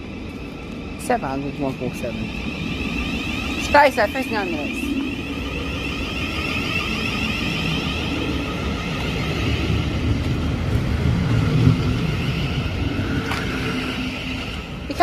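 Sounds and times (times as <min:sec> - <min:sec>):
electric train rumbling: 0:00.0 - 0:15.0
train high whine: 0:00.0 - 0:15.0.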